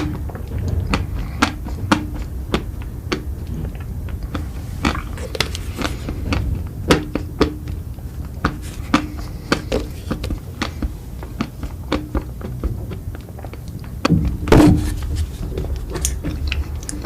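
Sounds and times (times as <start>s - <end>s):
chewing and mouth sounds: 0.0s - 17.0s
low steady rumble: 0.0s - 17.0s
sharp clicks and smacks: 0.0s - 17.0s.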